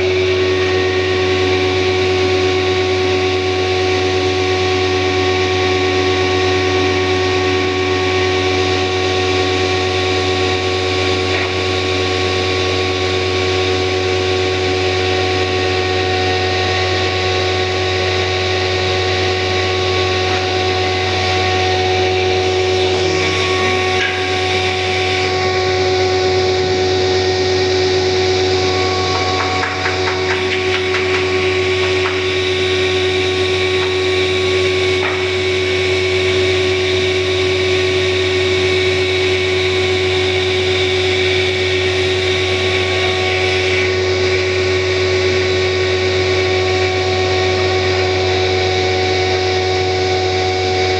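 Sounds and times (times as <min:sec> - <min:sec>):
power tool motor humming: 0:00.0 - 0:48.5.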